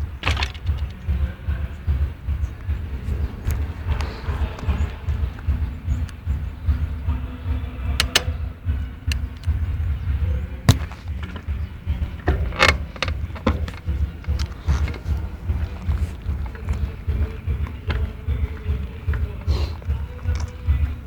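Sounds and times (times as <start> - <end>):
low rumble: 0.0 - 21.0
sharp clicks and cracks from a bike: 0.0 - 21.0.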